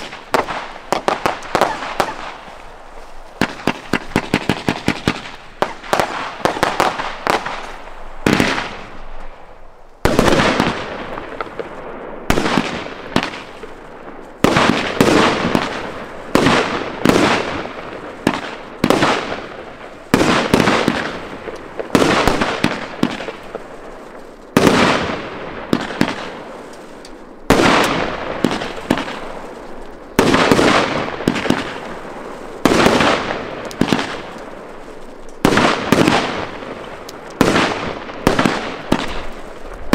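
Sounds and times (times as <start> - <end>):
firework crackle: 0.0 - 39.9
fireworks bursting: 0.0 - 39.9.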